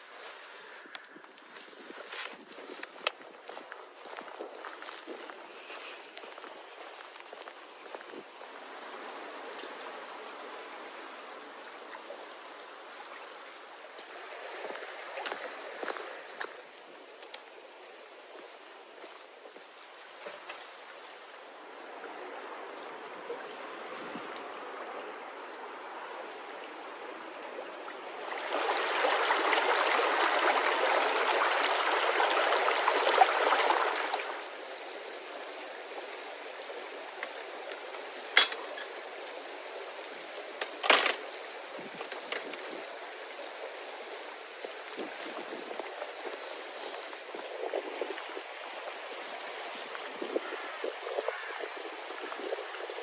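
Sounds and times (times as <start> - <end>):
rushing water hiss: 0.0 - 53.0.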